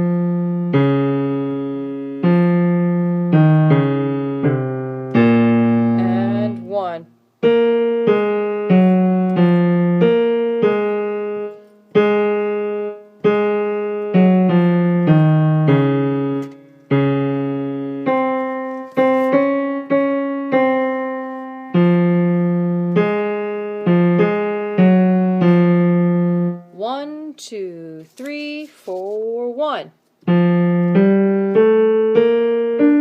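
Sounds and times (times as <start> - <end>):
piano chords: 0.0 - 27.3, 30.2 - 33.0.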